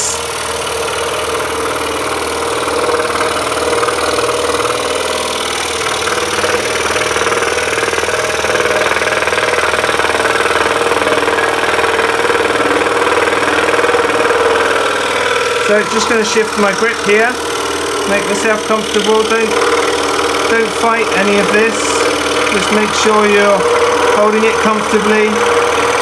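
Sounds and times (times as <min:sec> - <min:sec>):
scroll saw cutting wood: 0:00.0 - 0:26.0.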